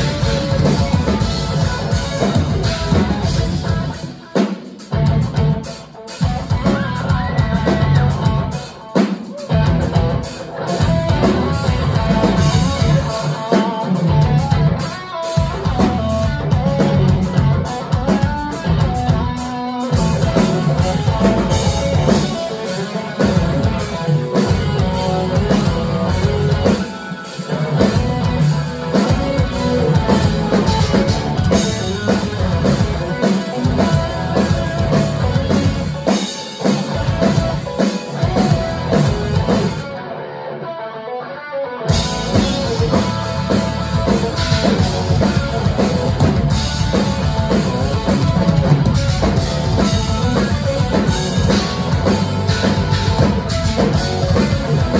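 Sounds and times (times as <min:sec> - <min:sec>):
bass guitar: 0:00.0 - 0:04.2, 0:04.9 - 0:08.8, 0:09.4 - 0:40.0, 0:41.9 - 0:54.9
drum kit: 0:00.0 - 0:40.1, 0:41.9 - 0:54.9
electric guitars: 0:00.0 - 0:54.9.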